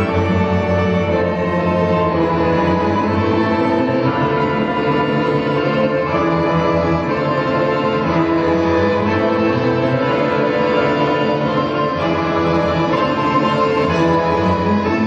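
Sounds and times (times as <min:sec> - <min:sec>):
orchestral low strings: 0:00.0 - 0:15.0.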